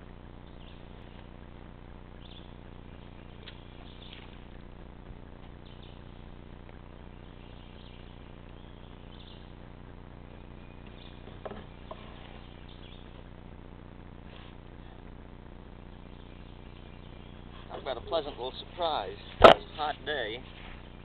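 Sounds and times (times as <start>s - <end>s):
small birds chirping: 0.0s - 13.6s, 14.2s - 21.0s
low background hum: 0.0s - 21.0s.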